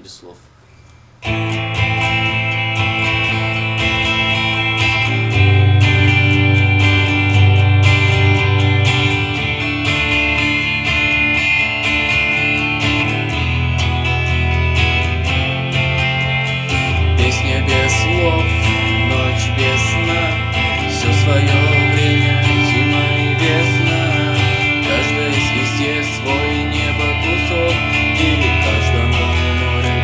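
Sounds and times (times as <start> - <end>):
acoustic guitar strumming: 0.8 - 30.0.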